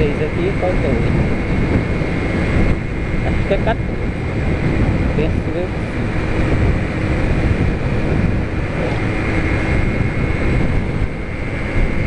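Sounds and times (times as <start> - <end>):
small motorcycle engine drone: 0.0 - 12.0
wind rushing over microphone: 0.0 - 12.0.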